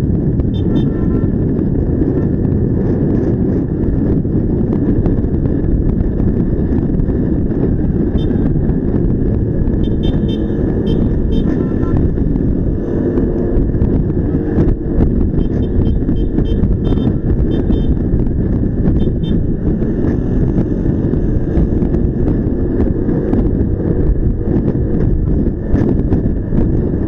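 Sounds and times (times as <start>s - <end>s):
vehicle engine rumble: 0.0s - 27.0s
wind noise: 0.0s - 27.0s.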